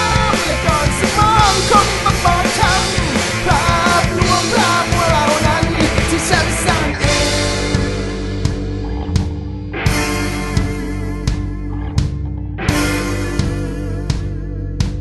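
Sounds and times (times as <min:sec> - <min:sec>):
distorted guitars: 0:00.0 - 0:15.0
melodic lead guitar bending notes: 0:00.0 - 0:15.0
rock band drums: 0:00.0 - 0:15.0.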